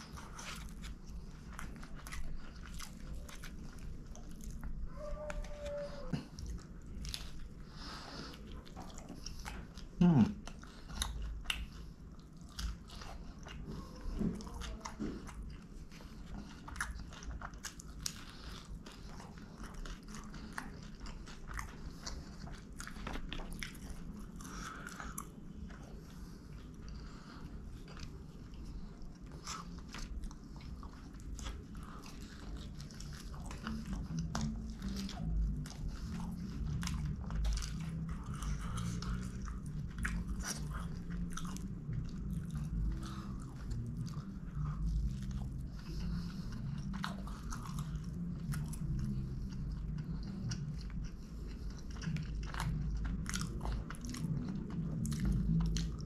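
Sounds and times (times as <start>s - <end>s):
chewing and crunching pizza: 0.0s - 56.0s.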